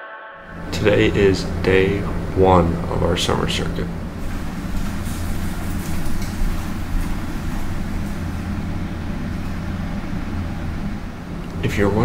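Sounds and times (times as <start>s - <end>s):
vehicle interior rumble: 0.5s - 12.0s.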